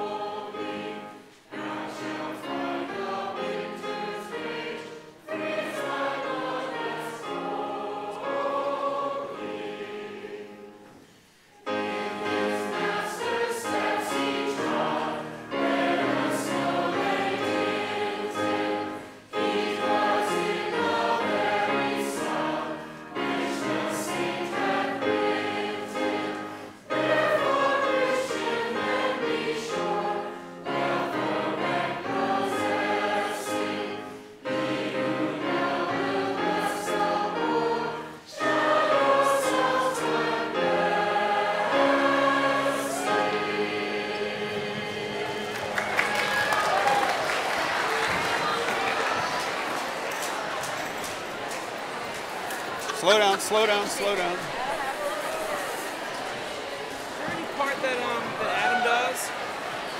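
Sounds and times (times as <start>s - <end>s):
many voices singing together: 0.0s - 59.9s.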